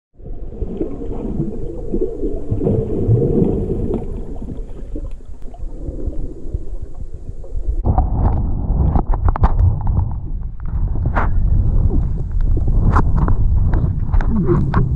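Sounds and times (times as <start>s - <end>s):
muffled underwater rumble: 0.2s - 14.9s.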